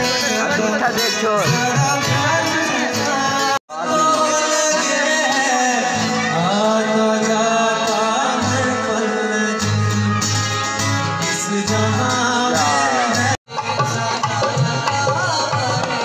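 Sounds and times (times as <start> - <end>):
song with singing voice: 0.0 - 16.0.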